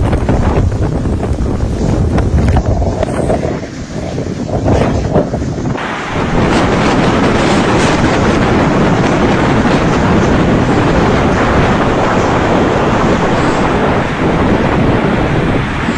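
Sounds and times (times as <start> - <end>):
storm wind buffeting microphone: 0.0 - 15.9.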